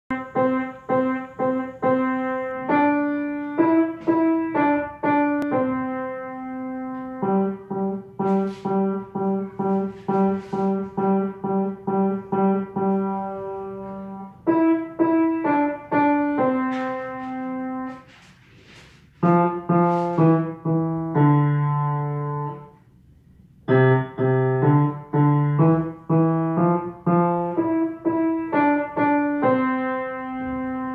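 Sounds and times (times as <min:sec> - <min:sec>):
child playing piano tune: 0:00.1 - 0:18.2, 0:19.2 - 0:30.9.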